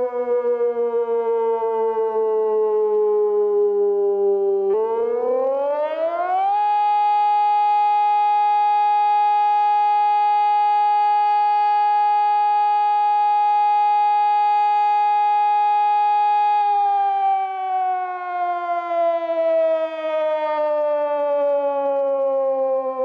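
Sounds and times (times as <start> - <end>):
electronic siren wailing: 0.0 - 23.0.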